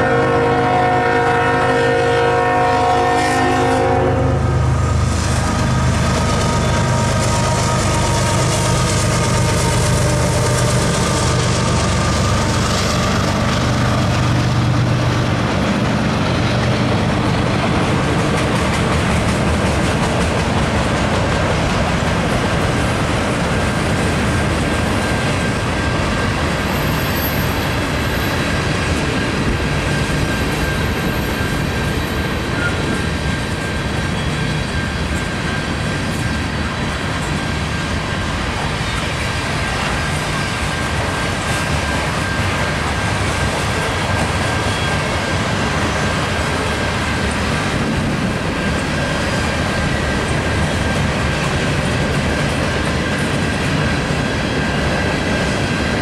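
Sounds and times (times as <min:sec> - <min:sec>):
locomotive engine rumble: 0:00.0 - 0:56.0
freight cars clattering on rails: 0:05.1 - 0:56.0.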